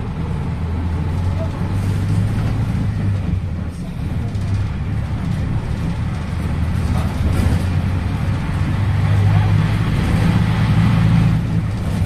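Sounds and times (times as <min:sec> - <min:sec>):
bus diesel engine drone: 0:00.0 - 0:12.0
road and body noise: 0:00.0 - 0:12.0.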